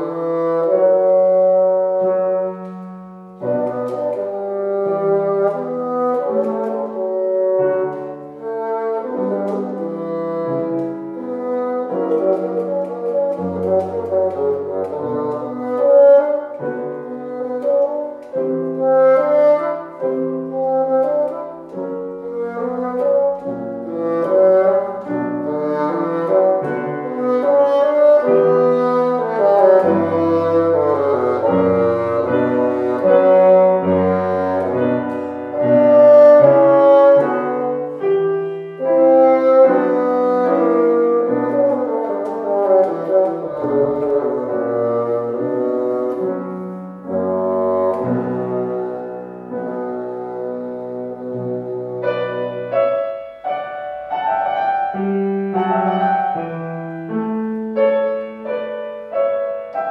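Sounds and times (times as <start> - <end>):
bassoon melody: 0.0 - 59.9
piano accompaniment: 0.0 - 59.9.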